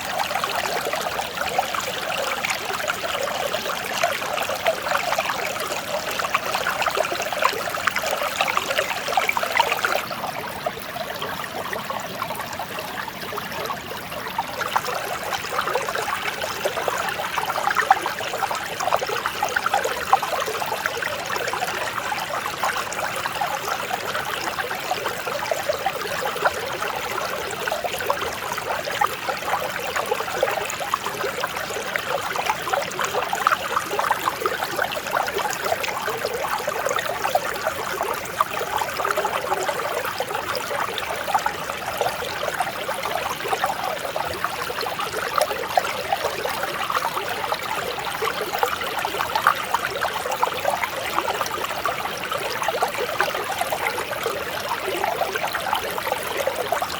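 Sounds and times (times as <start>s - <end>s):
stream babbling over rocks: 0.0s - 56.9s.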